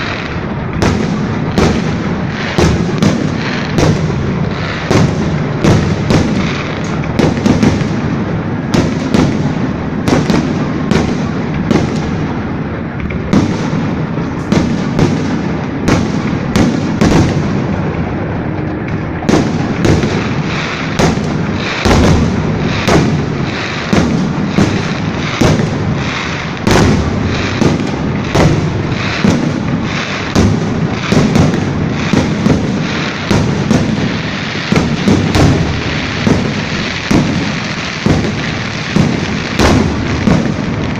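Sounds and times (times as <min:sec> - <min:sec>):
fireworks bangs: 0:00.0 - 0:40.9
rumble of bursts and echoes: 0:00.0 - 0:40.9.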